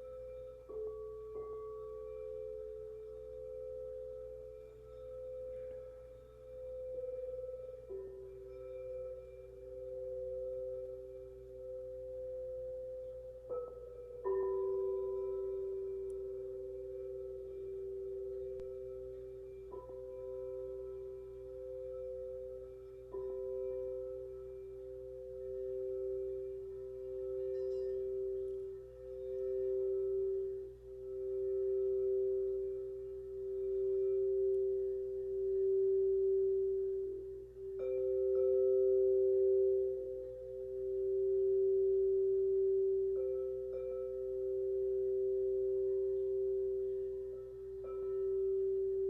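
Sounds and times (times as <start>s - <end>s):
singing bowls ringing: 0.0s - 49.0s.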